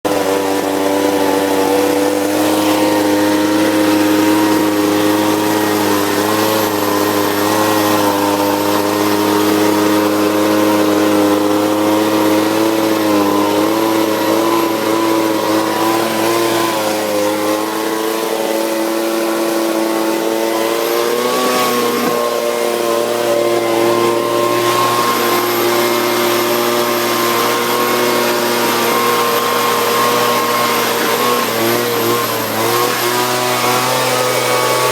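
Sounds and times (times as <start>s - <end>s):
leaf blower engine running: 0.0s - 34.9s.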